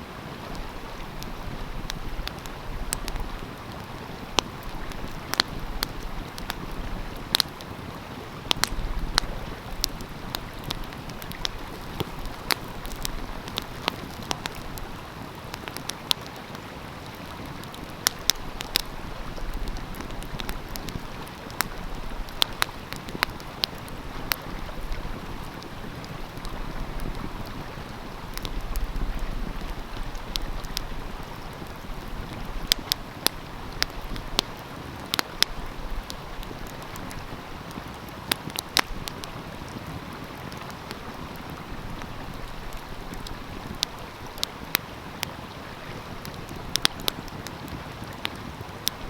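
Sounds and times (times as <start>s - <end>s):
wind rumble on microphone: 0.0s - 15.9s, 16.6s - 49.0s
stream flowing: 0.0s - 49.0s
wood fire crackling and popping: 0.2s - 49.0s.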